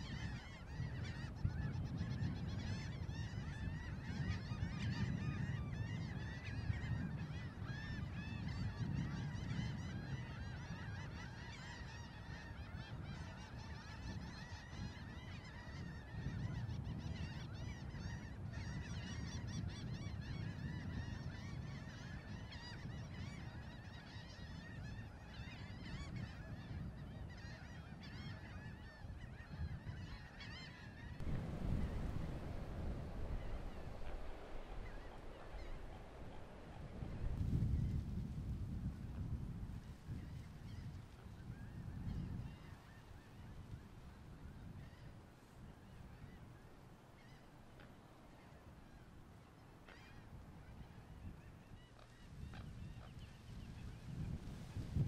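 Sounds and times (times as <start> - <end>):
flock of birds honking: 0.0 - 37.3, 44.6 - 54.3.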